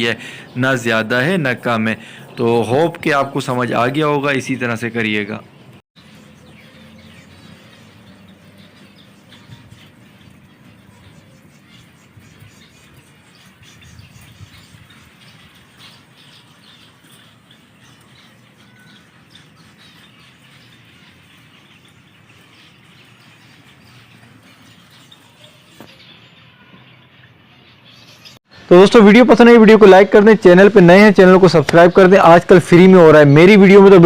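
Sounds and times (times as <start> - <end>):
finches chirping: 0.0 - 28.7.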